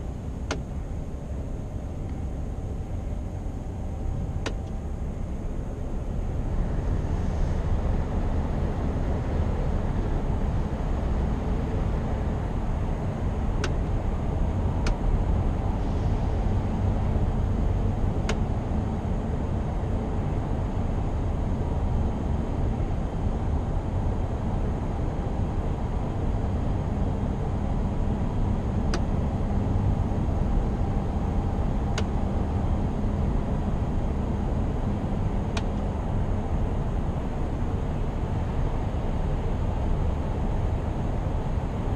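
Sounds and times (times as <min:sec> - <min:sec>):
road and tyre noise: 0:00.0 - 0:41.9
truck engine drone: 0:00.0 - 0:41.9.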